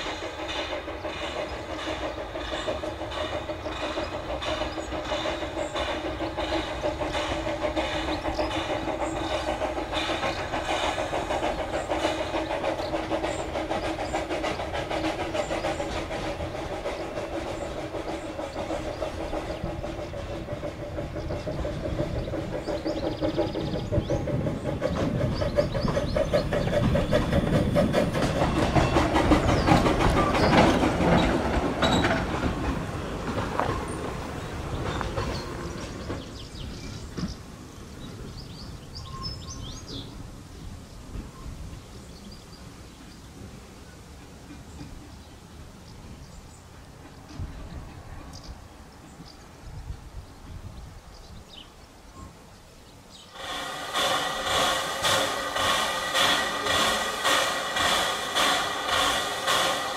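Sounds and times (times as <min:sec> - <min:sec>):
train wheels clicking over rail joints: 0:00.0 - 0:59.9.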